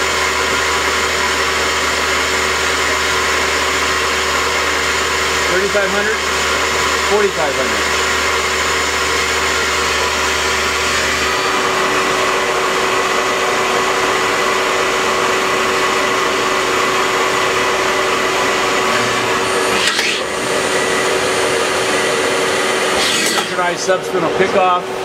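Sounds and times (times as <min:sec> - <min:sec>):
lathe motors whirring: 0:00.0 - 0:25.0.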